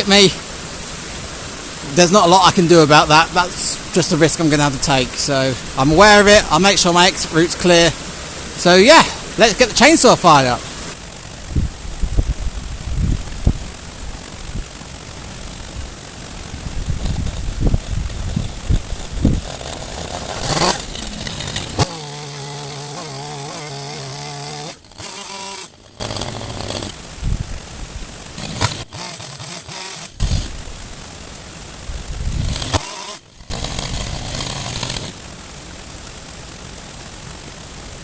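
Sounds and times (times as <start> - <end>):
chainsaw running: 0.0 - 38.0.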